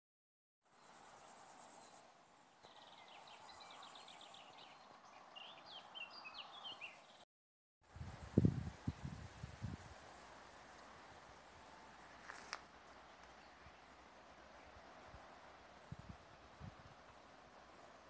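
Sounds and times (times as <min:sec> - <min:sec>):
songbird singing: 0:00.7 - 0:07.2, 0:09.6 - 0:18.0.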